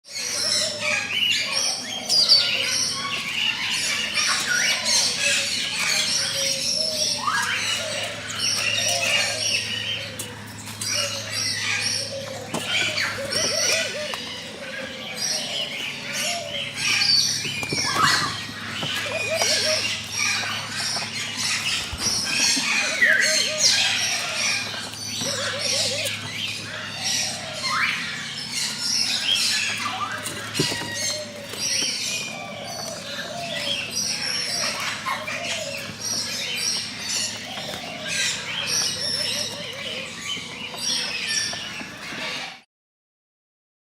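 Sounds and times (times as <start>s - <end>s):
birds chirping and squawking: 0.0s - 42.6s
steady low hum: 0.1s - 42.6s.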